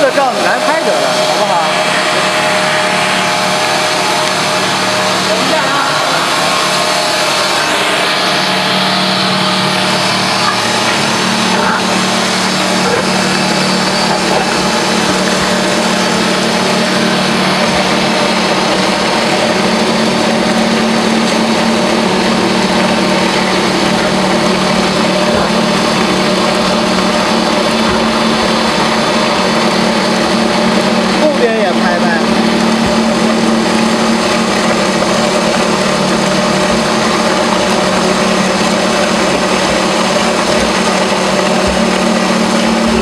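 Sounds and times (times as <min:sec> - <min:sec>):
pump machine hum: 0:00.0 - 0:43.0.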